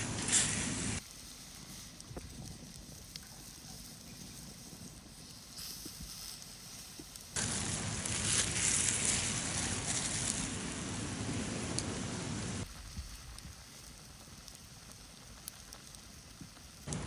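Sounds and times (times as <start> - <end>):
campfire crackling: 0.0 - 17.0
steady hiss: 0.0 - 17.0.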